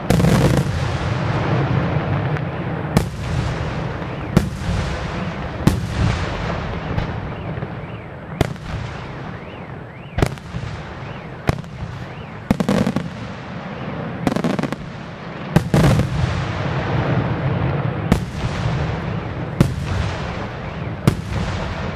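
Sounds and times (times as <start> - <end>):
rapid firework reports: 0.0 - 21.9.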